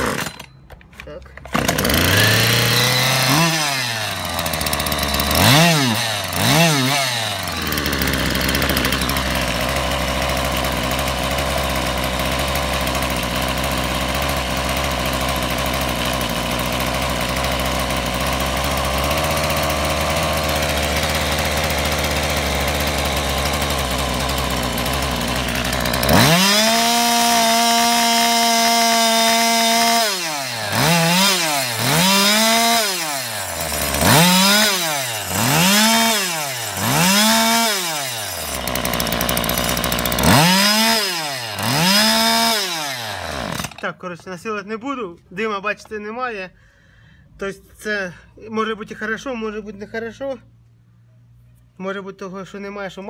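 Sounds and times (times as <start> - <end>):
chainsaw engine idling and revving: 0.0 - 44.2.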